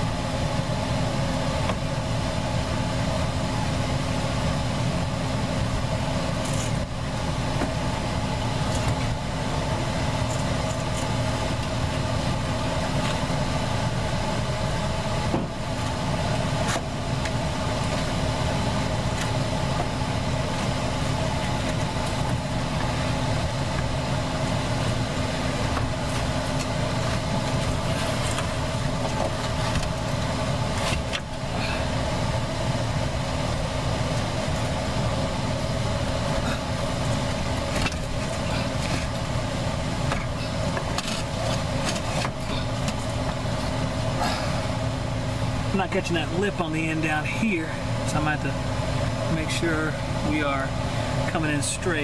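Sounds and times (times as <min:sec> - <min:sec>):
electric fan humming: 0:00.0 - 0:52.0.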